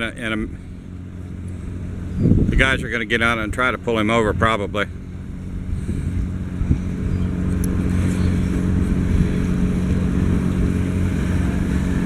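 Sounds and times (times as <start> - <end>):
ferry diesel engines droning: 0.0 - 12.0.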